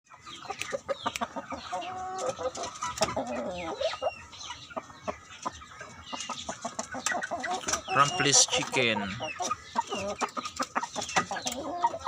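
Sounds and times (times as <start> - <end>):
chickens clucking: 0.1 - 12.0.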